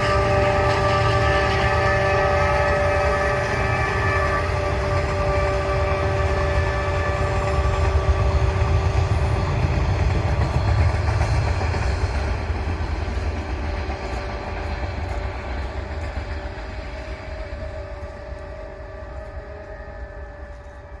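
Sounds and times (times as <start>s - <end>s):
steady ringing tones: 0.0s - 21.0s
train rumbling past: 0.0s - 21.0s.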